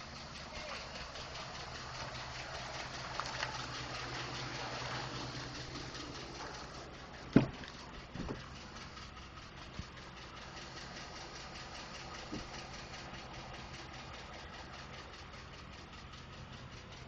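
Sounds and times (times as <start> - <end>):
engine idling with ticking: 0.0 - 17.0
engine knocks: 0.0 - 17.0.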